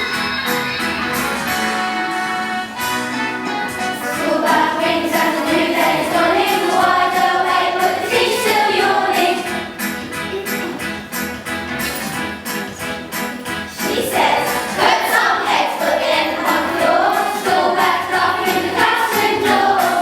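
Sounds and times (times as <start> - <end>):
people singing: 0.0 - 10.0, 13.7 - 20.0
instrumental backing with steady beat: 0.0 - 20.0.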